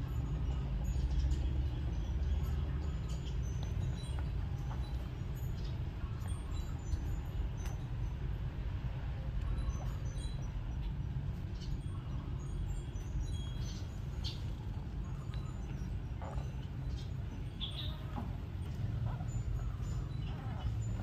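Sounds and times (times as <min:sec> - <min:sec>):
faint high squeaks and ticks: 0:00.0 - 0:08.5, 0:09.1 - 0:21.0
low outdoor rumble: 0:00.0 - 0:21.0.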